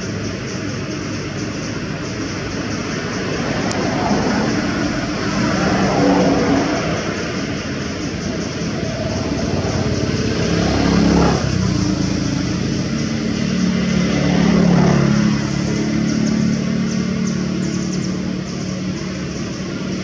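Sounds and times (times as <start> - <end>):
vehicle engines running: 0.0 - 20.0.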